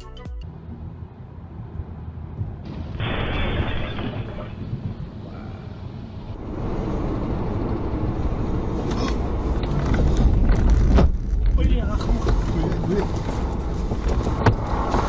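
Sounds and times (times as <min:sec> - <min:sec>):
car engine and tyre rumble: 0:00.4 - 0:15.0.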